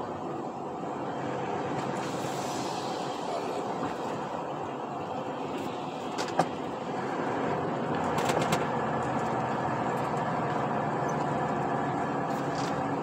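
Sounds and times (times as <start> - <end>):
road noise: 0.0 - 13.0
truck engine running: 0.0 - 13.0.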